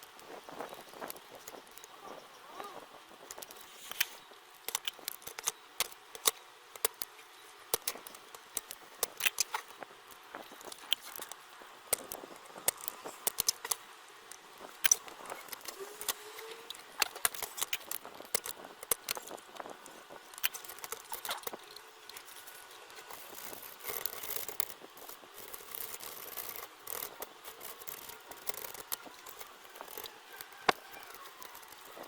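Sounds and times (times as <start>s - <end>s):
small tools clicking and tapping: 2.6s - 32.0s.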